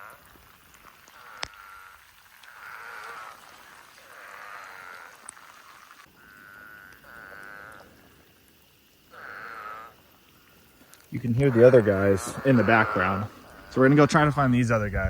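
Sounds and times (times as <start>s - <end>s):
toads calling: 0.0s - 14.8s.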